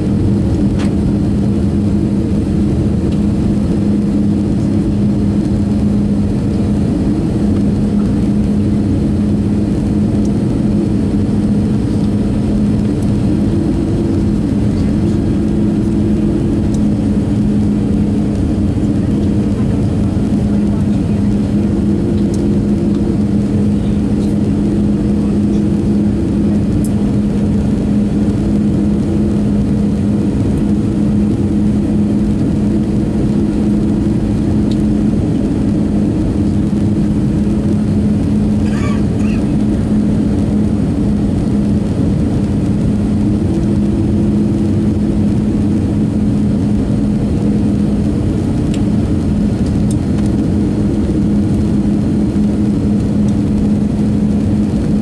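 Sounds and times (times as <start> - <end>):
constant low hum: 0.0 - 55.0
jet engine and airflow drone: 0.0 - 55.0.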